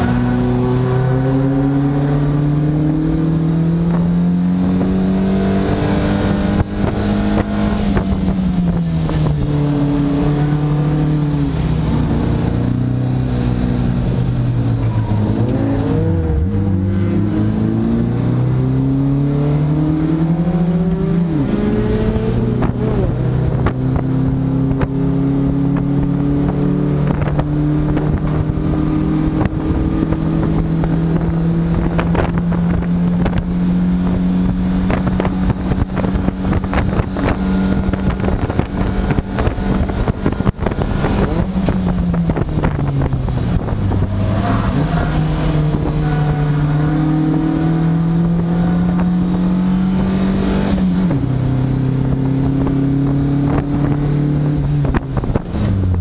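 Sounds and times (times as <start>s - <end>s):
race car engine: 0.0s - 56.0s
road and wind noise: 0.0s - 56.0s.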